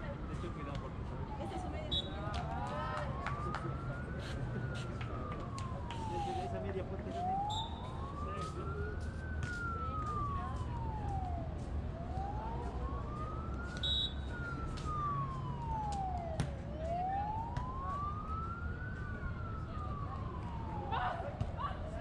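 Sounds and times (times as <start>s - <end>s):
siren wailing: 0.1s - 22.0s.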